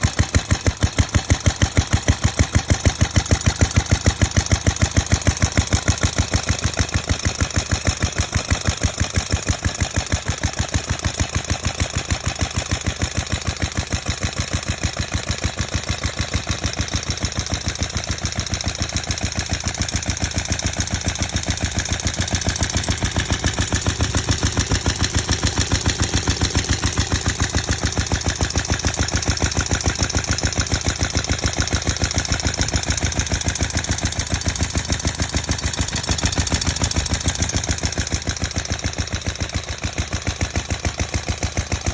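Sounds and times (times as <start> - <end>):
stationary engine running: 0.0 - 41.9.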